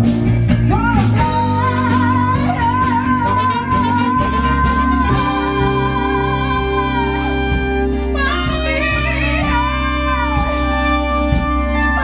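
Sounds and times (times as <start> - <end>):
live band music: 0.0 - 12.0
woman singing: 0.6 - 12.0.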